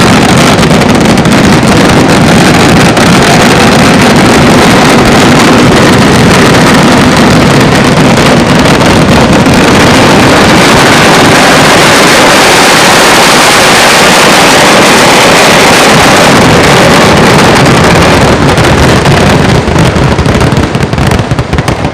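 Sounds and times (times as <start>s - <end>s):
firecrackers banging: 0.0s - 21.9s.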